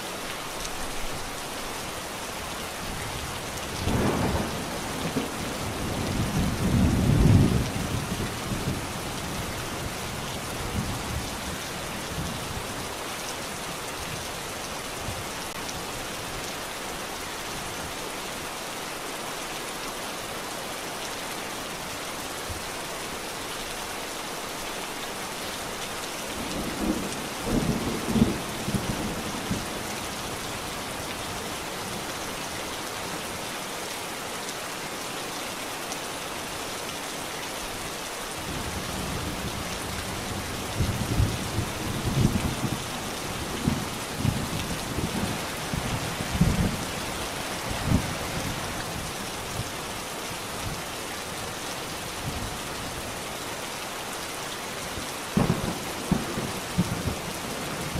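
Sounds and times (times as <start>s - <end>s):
rain hiss: 0.0s - 57.9s.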